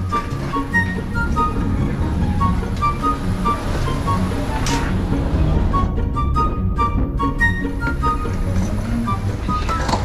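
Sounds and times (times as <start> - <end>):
low rumble: 0.0 - 9.6
light melody tune: 0.0 - 10.0.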